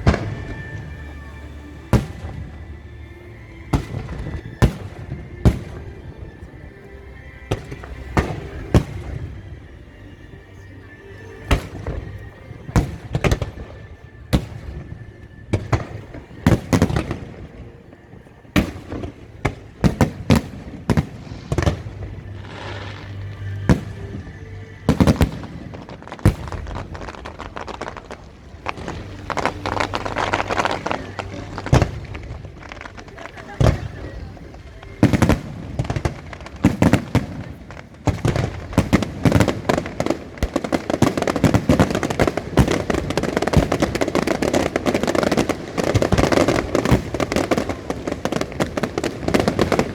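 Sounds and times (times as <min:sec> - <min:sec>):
fireworks bangs: 0:00.0 - 0:09.8, 0:10.5 - 0:49.9.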